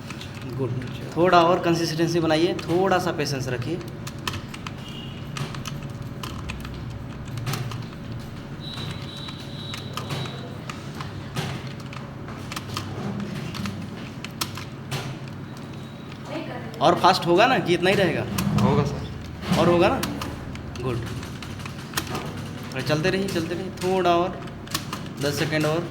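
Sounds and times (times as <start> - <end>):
typing on a keyboard: 0.0 - 18.3, 19.2 - 25.9.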